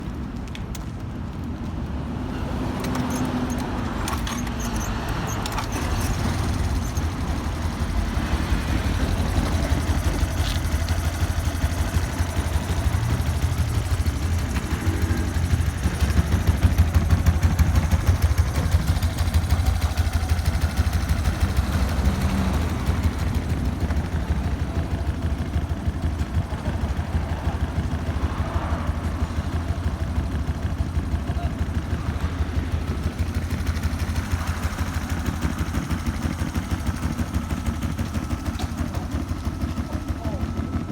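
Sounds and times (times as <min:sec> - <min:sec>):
scooter engine idling: 0:03.0 - 0:40.9.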